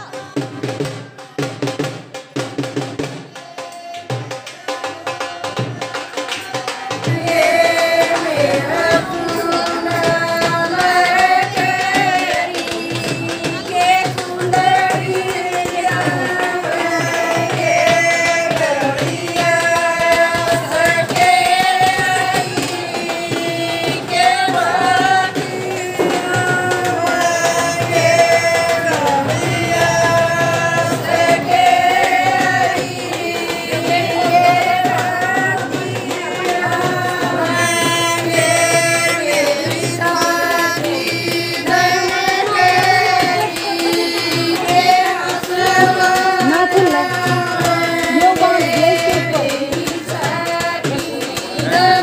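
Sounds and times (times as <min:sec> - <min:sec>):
steady drum beat: 0:00.0 - 0:52.0
women singing folk song: 0:00.0 - 0:52.0.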